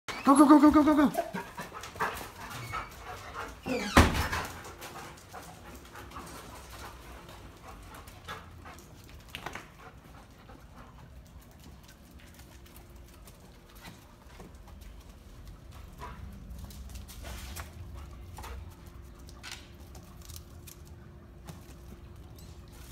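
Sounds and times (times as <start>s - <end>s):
dogs panting and whimpering: 0.1s - 20.1s.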